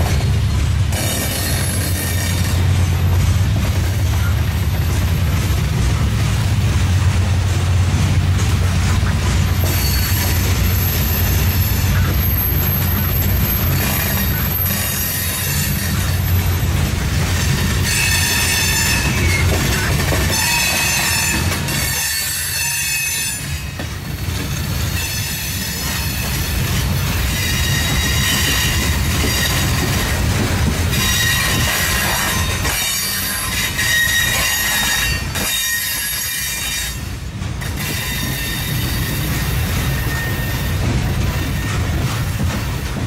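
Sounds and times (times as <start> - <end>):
wheel flanges squealing on rail: 0.0 - 6.2, 8.1 - 43.0
rumble of wheels on track: 0.0 - 43.0.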